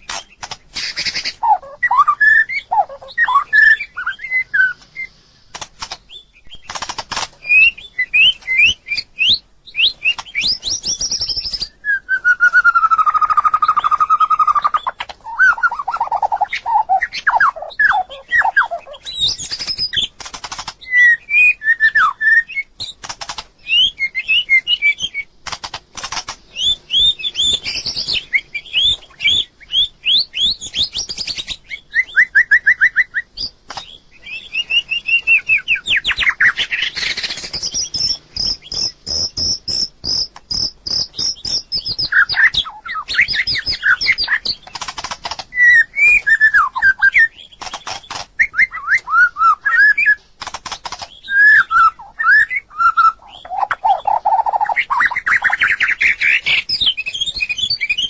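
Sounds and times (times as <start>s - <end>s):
bird singing whistled phrases: 0.8s - 5.2s, 7.4s - 20.1s, 20.8s - 23.0s, 23.6s - 25.3s, 26.5s - 44.6s, 45.5s - 47.7s, 48.4s - 50.2s, 51.2s - 58.0s.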